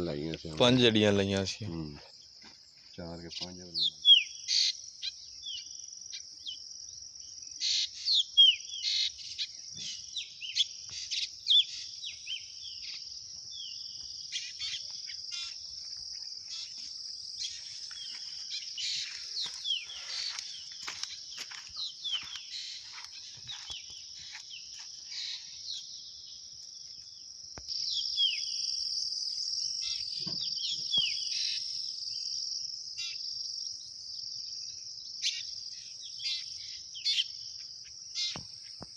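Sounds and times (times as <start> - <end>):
birds chirping: 0.0 - 32.4
insects shrilling: 3.0 - 34.2.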